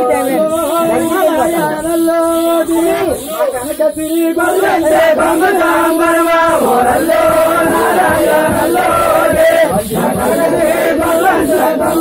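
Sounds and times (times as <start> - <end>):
crowd: 0.0 - 12.0
men singing a folk chant: 0.0 - 12.0.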